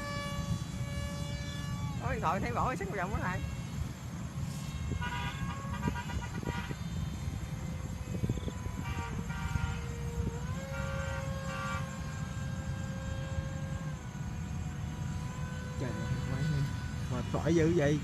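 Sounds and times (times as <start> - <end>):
model plane motor whining: 0.0 - 18.0.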